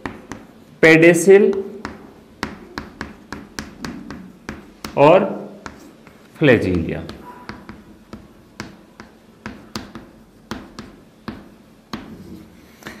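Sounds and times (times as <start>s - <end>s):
chalk tapping on blackboard: 0.0s - 13.0s.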